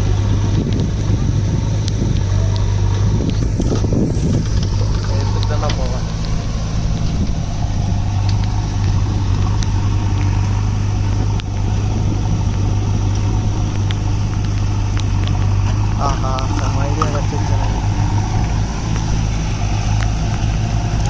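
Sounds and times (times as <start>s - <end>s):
backhoe diesel engine running: 0.0s - 21.0s
tractor diesel engine droning: 0.0s - 21.0s.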